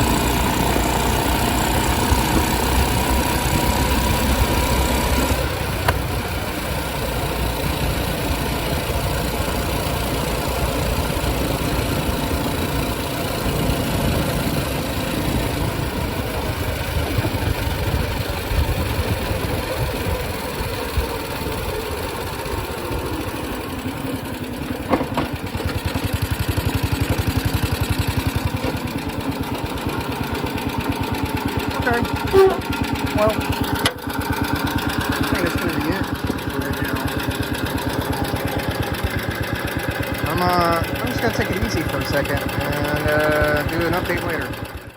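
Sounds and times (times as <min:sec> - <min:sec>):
minibike engine running: 0:00.0 - 0:44.9.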